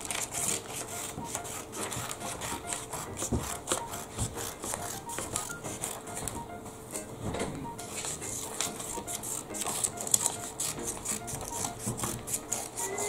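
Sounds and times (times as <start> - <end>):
paper rustling: 0.0 - 6.4, 7.4 - 13.0
scissors snipping paper: 0.0 - 6.4, 7.9 - 13.0.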